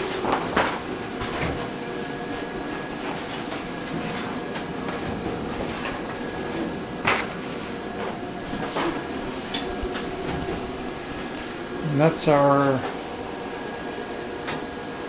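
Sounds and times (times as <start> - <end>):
vinyl cutter running: 0.0 - 15.0.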